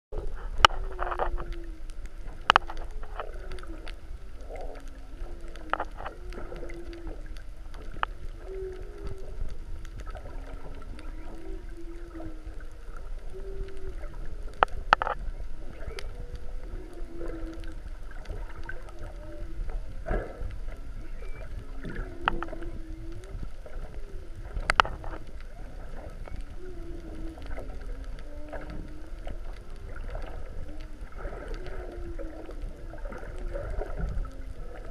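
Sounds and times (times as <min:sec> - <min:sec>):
low underwater rumble: 0:00.1 - 0:34.9
whale moans underwater: 0:00.2 - 0:34.9.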